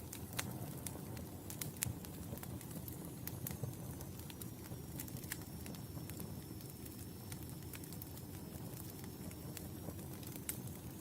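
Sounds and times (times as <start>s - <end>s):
fire crackles and pops: 0.0s - 11.0s
low rumble of flame: 0.0s - 11.0s.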